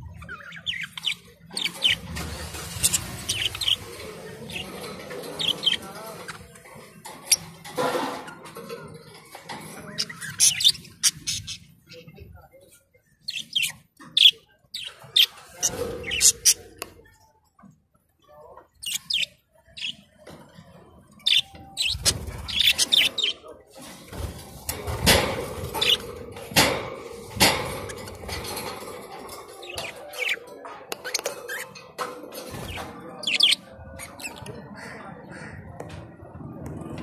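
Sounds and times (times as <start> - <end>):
budgerigars chirping and chattering: 0.0 - 12.5, 13.1 - 17.0, 18.4 - 35.9.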